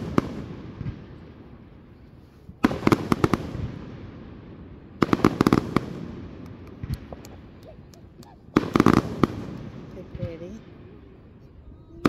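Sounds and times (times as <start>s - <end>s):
fireworks cracking: 0.0s - 1.2s, 2.5s - 11.5s
fireworks rumble: 0.0s - 12.0s.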